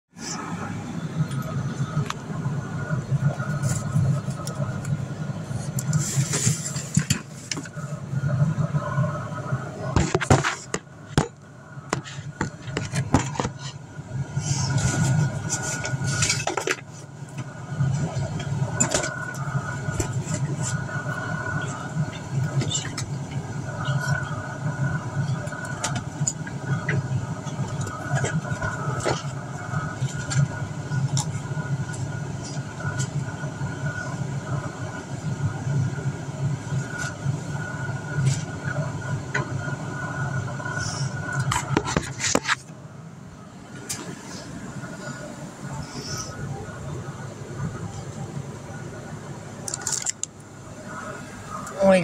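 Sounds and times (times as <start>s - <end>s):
low machine hum: 0.2s - 52.0s.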